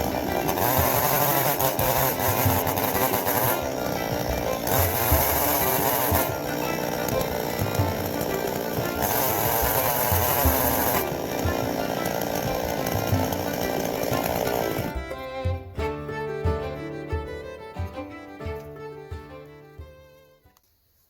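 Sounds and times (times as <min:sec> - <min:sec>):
chainsaw cutting log: 0:00.0 - 0:20.2
background music with steady beat: 0:00.0 - 0:20.6.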